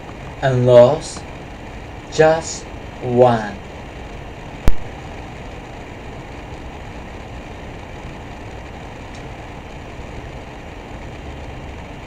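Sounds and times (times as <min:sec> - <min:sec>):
room noise hiss and hum: 0:00.0 - 0:12.0.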